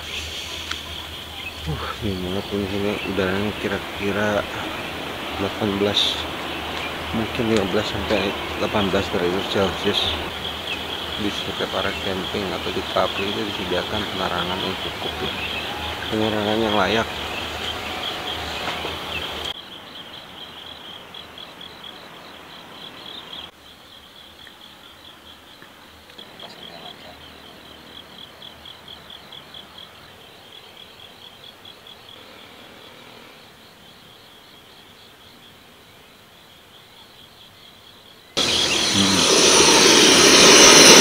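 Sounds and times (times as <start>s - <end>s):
insects chirping: 0.0s - 41.0s.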